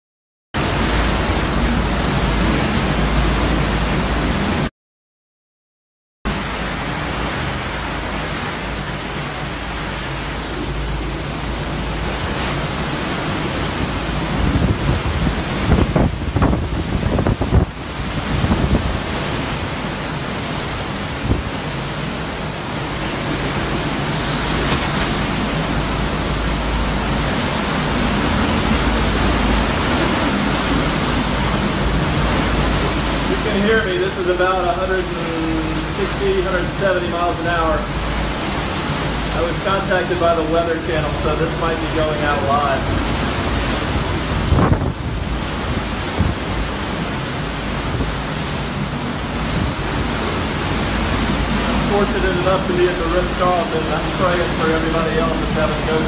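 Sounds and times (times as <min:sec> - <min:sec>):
driving rain: 0:00.6 - 0:04.7, 0:06.3 - 0:56.0
hurricane winds: 0:00.6 - 0:04.7, 0:06.3 - 0:56.0.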